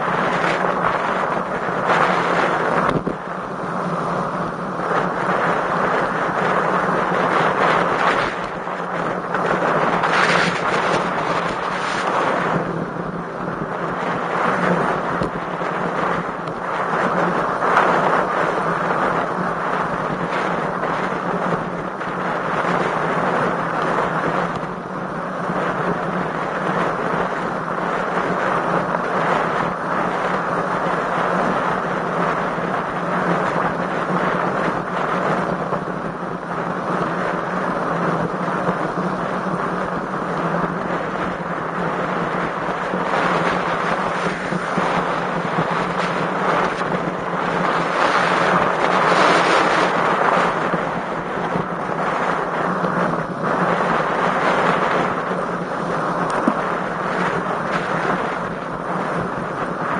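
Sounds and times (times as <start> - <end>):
steady low hum: 0.0 - 59.9
wind rushing over microphone: 0.0 - 59.9.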